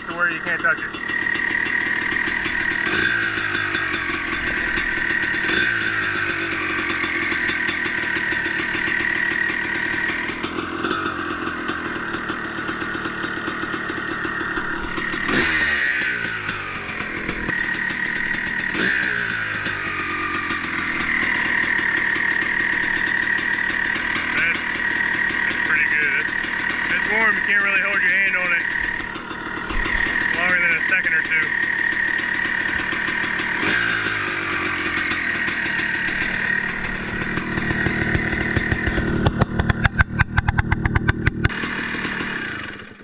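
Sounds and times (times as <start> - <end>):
engine throttle blips: 0.0 - 43.0
two-stroke engine idling: 0.0 - 43.0.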